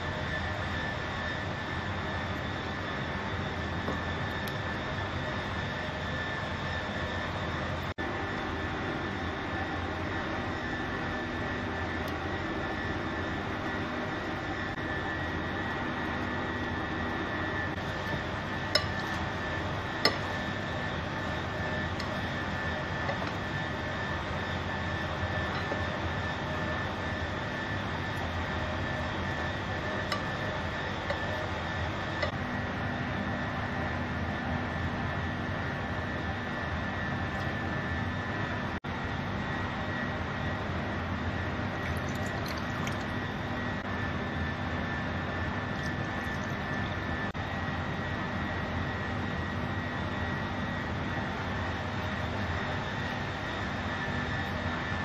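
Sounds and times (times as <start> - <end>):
machine drone with high whine: 0.0 - 55.0.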